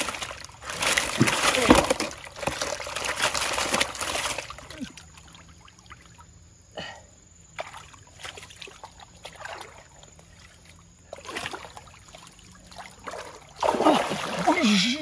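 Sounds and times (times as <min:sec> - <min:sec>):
water sloshing and splashing: 0:00.0 - 0:06.5, 0:07.4 - 0:15.0.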